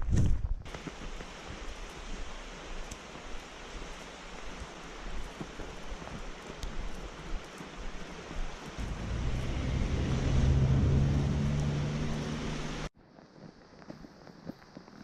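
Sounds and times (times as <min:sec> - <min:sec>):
mountain stream rushing: 0:00.7 - 0:12.9.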